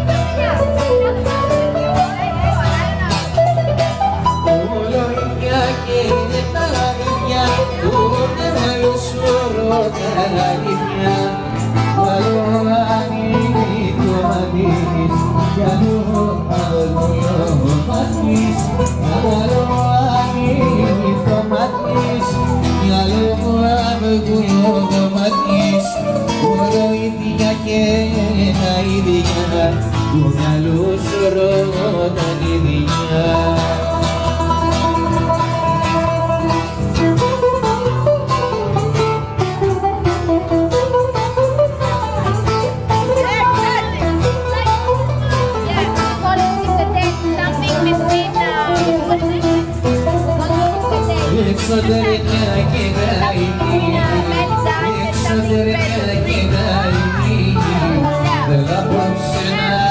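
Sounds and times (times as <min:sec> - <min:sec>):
acoustic guitars playing: 0:00.0 - 0:59.9
man singing into a microphone: 0:03.2 - 0:39.0, 0:40.1 - 0:59.9.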